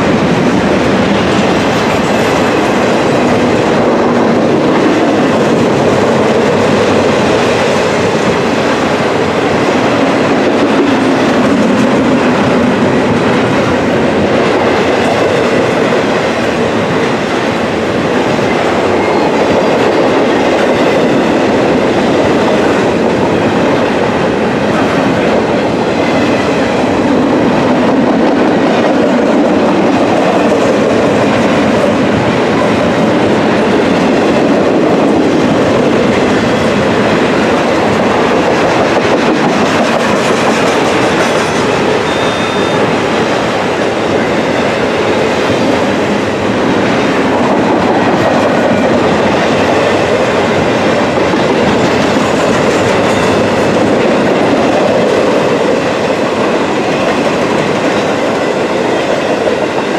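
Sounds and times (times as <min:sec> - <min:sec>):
steel wheels rolling on rails: 0:00.0 - 0:59.9.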